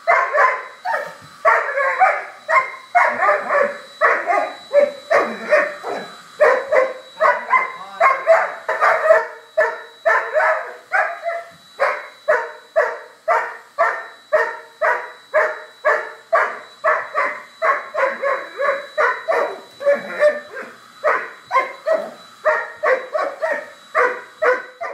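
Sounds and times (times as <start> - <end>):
dog barking: 0.0 - 24.9.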